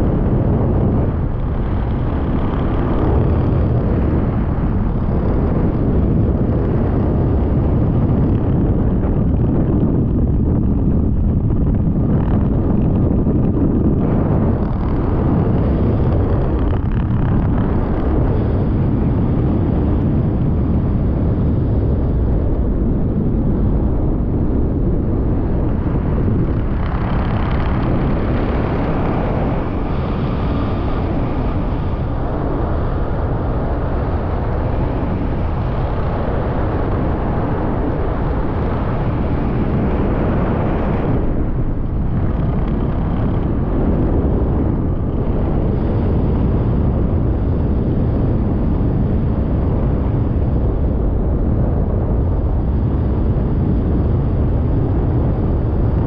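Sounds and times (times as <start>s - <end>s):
loud low rumble: 0.0s - 56.0s.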